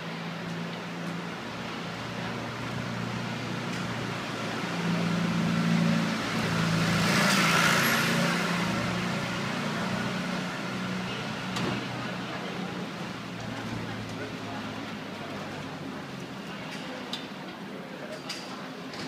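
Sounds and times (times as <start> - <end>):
passing vehicle: 0.0 - 16.7.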